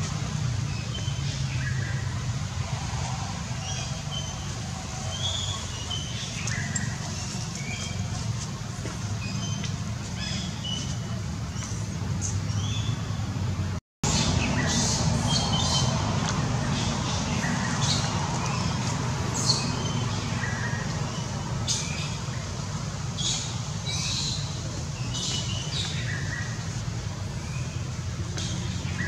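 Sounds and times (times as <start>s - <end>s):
birds chirping: 3.4s - 29.0s.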